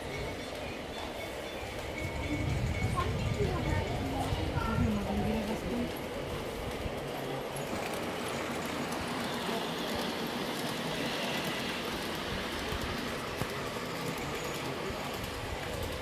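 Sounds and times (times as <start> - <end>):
model train rolling whir: 0.0 - 16.0.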